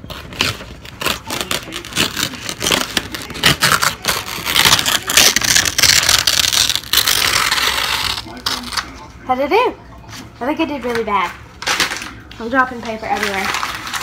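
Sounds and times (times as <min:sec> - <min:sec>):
paper crinkling and rustling: 0:00.0 - 0:09.1, 0:10.1 - 0:14.0.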